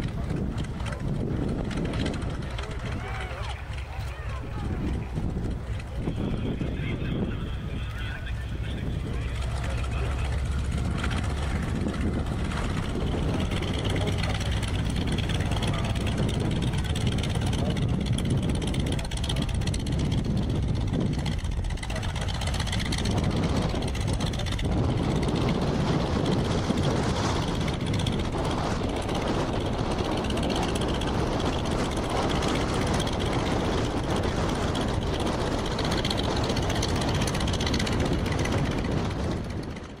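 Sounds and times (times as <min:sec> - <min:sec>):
aircraft piston engine and propeller: 0:00.0 - 0:40.0.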